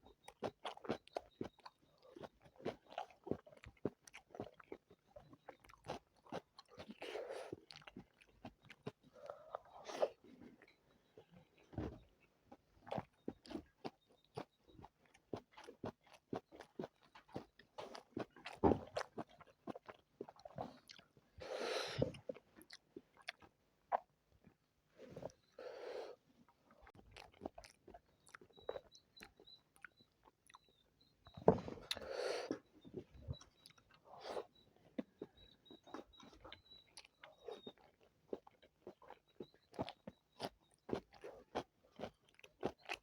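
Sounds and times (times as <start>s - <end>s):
person chewing crunchy food: 0.0s - 43.0s.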